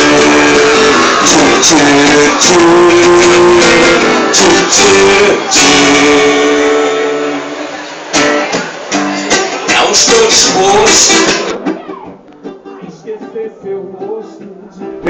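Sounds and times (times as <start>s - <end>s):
live guitar music strumming: 0.0s - 15.0s.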